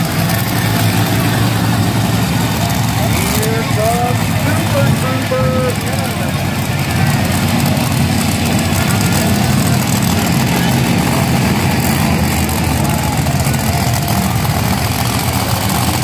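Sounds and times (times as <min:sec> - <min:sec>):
monster truck engines: 0:00.0 - 0:16.0.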